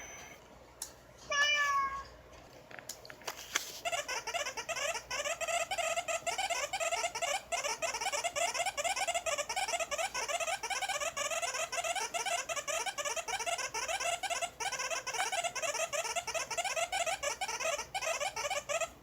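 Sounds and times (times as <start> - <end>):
rapid high-pitched squeaking: 3.7 - 19.0.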